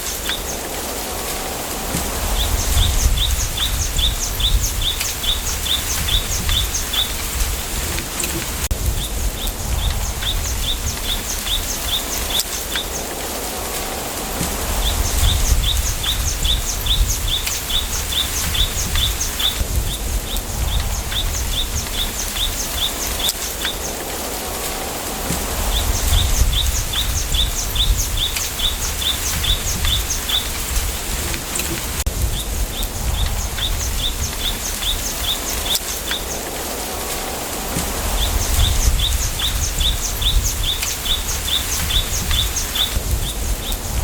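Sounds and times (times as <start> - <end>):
bamboo leaves rustling: 0.0 - 44.0
low wind rumble: 0.0 - 44.0.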